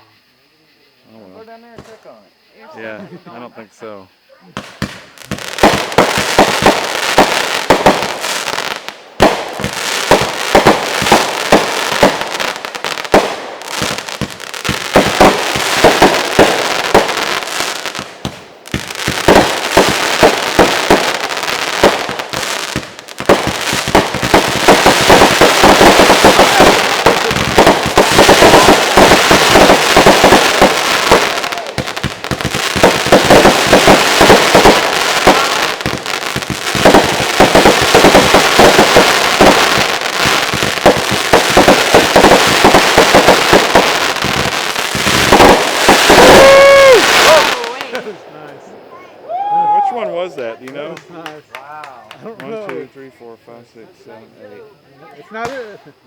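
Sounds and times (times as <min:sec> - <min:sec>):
fireworks crackling: 0:02.7 - 0:53.2, 0:55.4 - 0:56.0.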